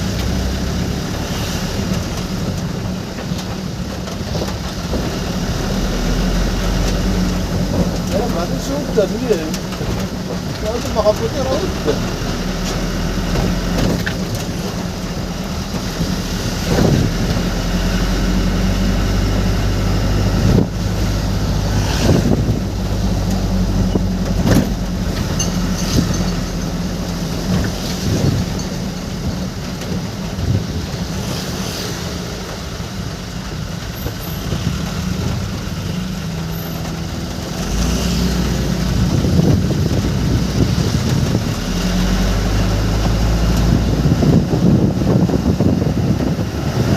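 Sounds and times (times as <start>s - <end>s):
road noise: 0.0s - 46.9s
vehicle engine hum: 0.0s - 46.9s.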